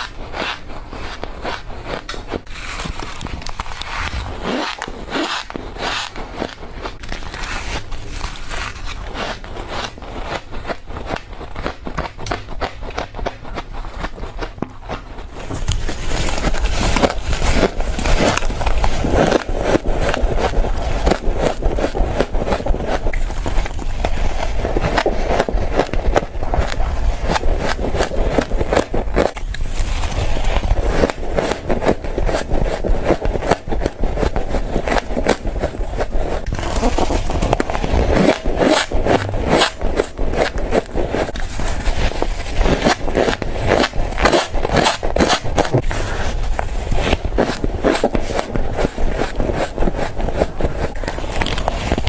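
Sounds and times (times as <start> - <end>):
ice being crunched and chewed: 0.0 - 52.0.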